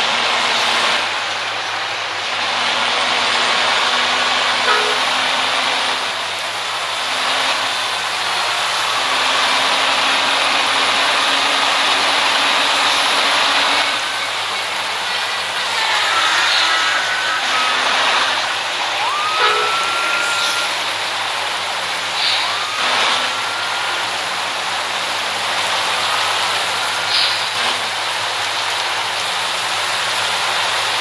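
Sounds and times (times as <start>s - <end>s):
heavy vehicle moving: 0.0s - 31.0s.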